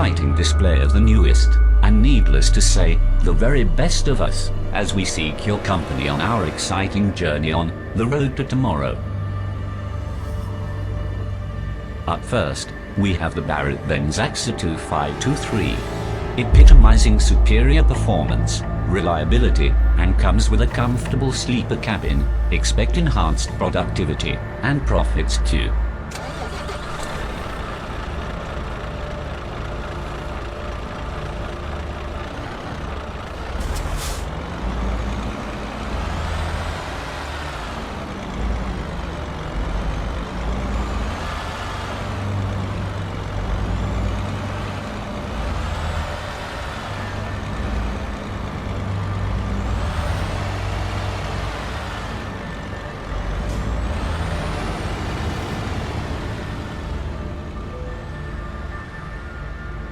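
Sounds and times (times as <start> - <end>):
diesel truck engine revving: 0.0 - 59.1.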